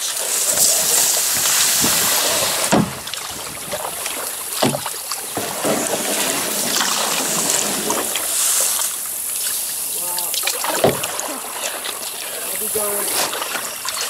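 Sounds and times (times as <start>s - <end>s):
kayak paddle strokes in water: 0.0s - 14.0s
water moving around hull: 0.0s - 14.0s.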